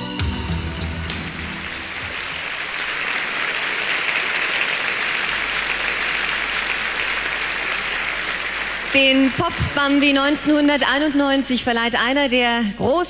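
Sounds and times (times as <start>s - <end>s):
audience applauding: 0.6s - 11.3s.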